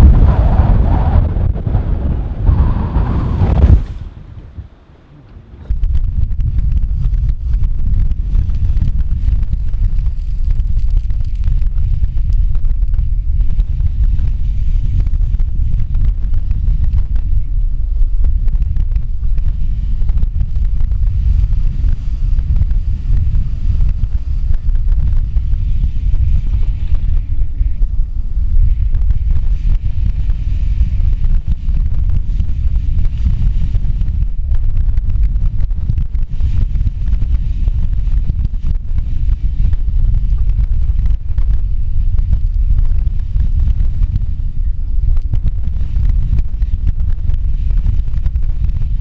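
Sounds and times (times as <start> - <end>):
wind buffeting microphone: 0.0 - 49.0
waves and spray hissing on hull: 6.8 - 49.0.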